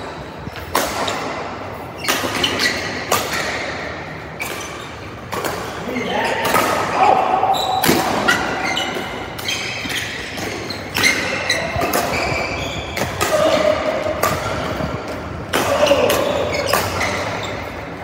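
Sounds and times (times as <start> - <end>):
shoes squeaking on court: 0.4 - 6.6, 7.4 - 18.0
rackets striking shuttlecock: 0.6 - 7.1, 7.7 - 17.9.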